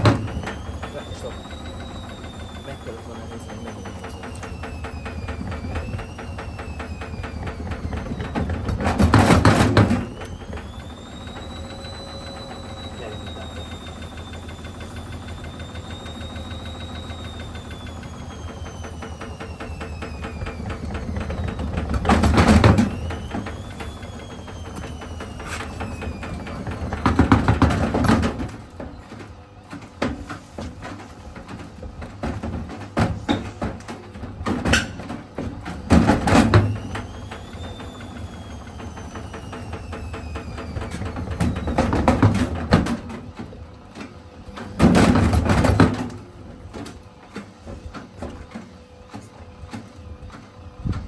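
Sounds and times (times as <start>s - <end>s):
washing machine motor whine: 0.0s - 51.0s.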